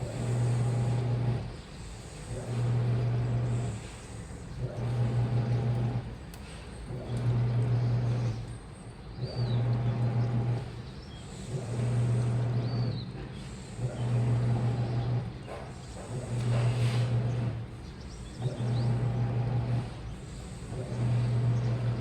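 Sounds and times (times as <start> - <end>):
washing machine motor humming: 0.0 - 22.0.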